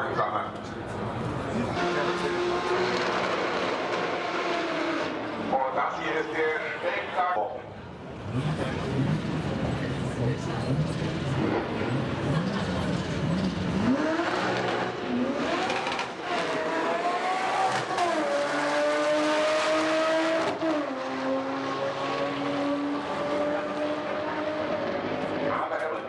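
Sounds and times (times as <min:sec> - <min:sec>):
car engine revving: 0:01.1 - 0:05.8, 0:08.1 - 0:26.0.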